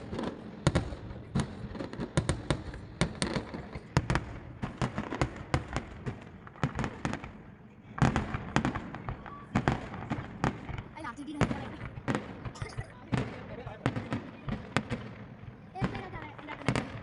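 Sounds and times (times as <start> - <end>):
fireworks banging and cracking: 0.0 - 17.0.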